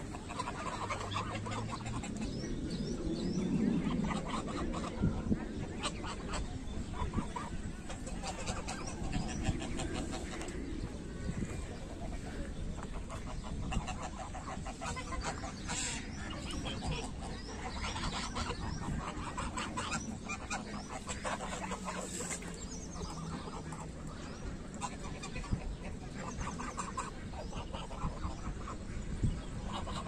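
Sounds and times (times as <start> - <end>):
geese and ducks calling: 0.0 - 30.0
low background rumble: 0.0 - 30.0.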